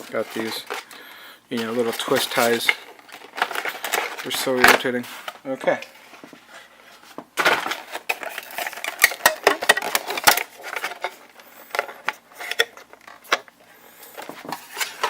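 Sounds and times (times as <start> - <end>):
packaging clicks and rustling: 0.0 - 5.4, 7.1 - 15.0.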